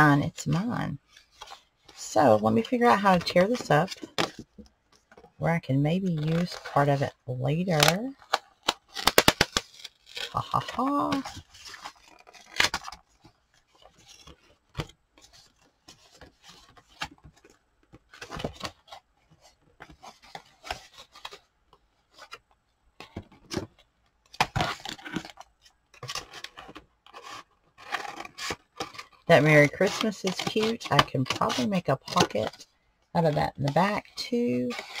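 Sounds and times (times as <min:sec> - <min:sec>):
paper rustling and scraping: 0:00.4 - 0:05.4, 0:06.0 - 0:35.0.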